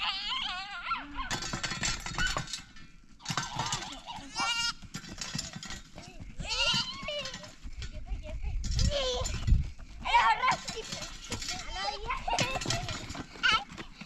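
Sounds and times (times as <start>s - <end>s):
knocks and shuffling: 1.2s - 14.0s.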